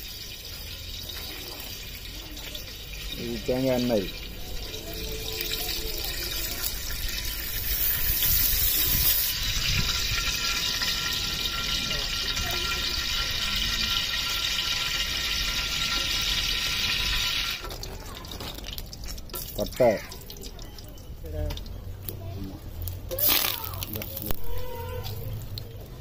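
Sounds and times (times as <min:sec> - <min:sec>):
oil sizzling in a pot: 0:00.0 - 0:21.0, 0:23.1 - 0:25.8.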